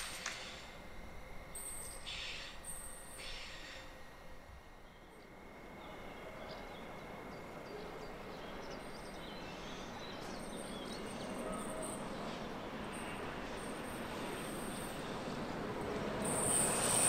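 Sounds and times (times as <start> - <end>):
approaching train rumble: 0.0 - 17.0.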